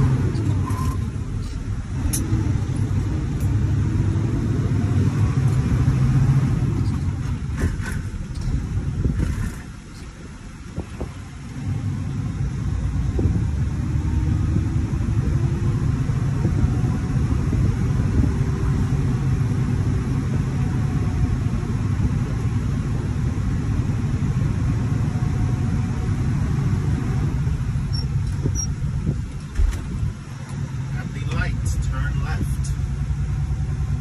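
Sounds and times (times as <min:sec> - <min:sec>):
diesel truck engine rumbling: 0:00.0 - 0:34.0.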